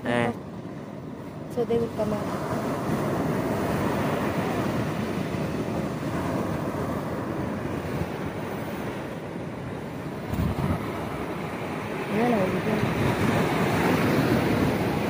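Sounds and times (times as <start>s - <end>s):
ocean surf washing: 0.0s - 15.0s
wind buffeting microphone: 0.4s - 15.0s.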